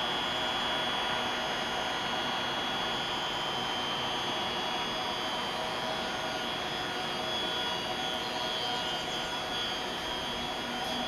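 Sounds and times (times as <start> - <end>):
high equipment whine: 0.0 - 11.0.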